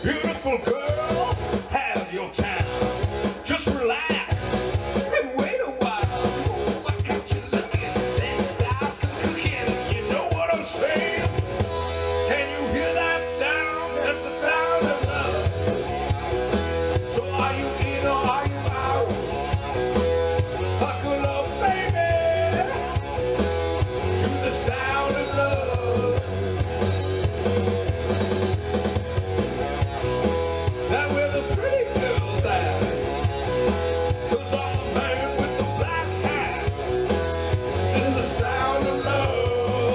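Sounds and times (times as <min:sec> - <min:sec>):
rock band music: 0:00.0 - 0:39.9.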